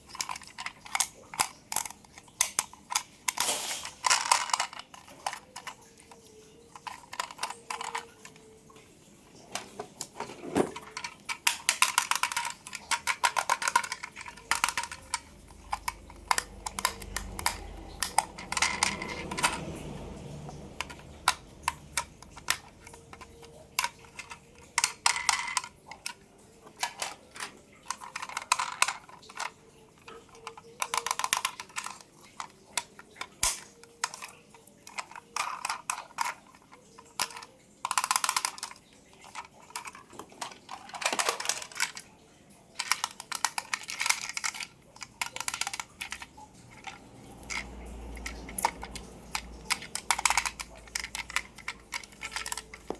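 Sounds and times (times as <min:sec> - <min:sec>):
plastic toy cars clicking and rattling: 0:00.0 - 0:52.9.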